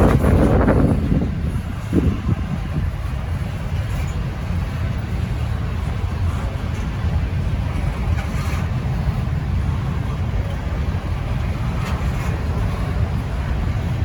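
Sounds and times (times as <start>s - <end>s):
freight train rolling past: 0.0s - 14.0s
wind buffeting microphone: 0.0s - 14.0s.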